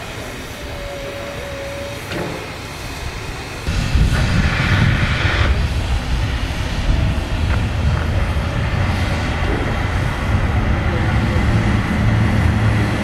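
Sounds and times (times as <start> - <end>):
steady low rumble: 0.0 - 13.0
steam locomotive hissing: 0.0 - 13.0.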